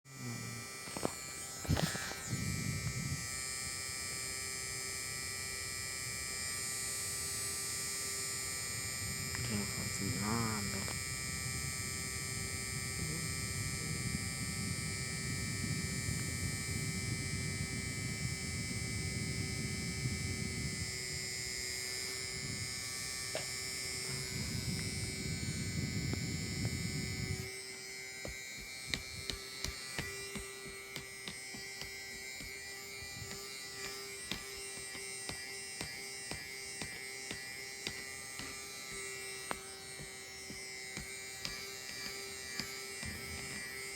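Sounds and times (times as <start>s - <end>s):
electric fan motor humming: 0.0s - 43.9s.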